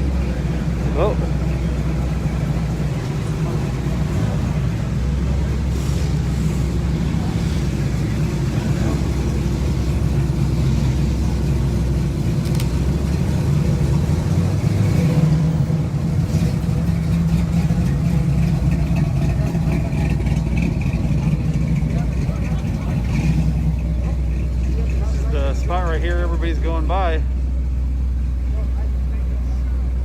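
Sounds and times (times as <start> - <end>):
car engine rumbling past: 0.0 - 30.0.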